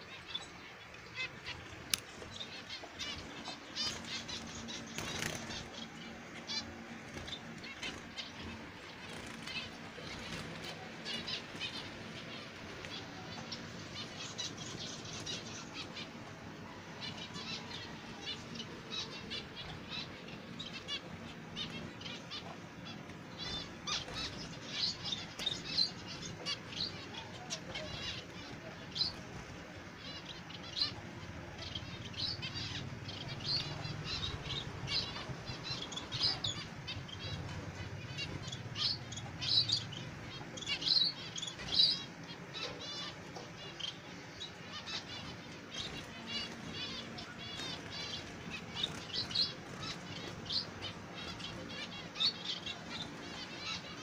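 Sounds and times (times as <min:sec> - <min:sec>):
finches chirping: 0:00.0 - 0:54.0.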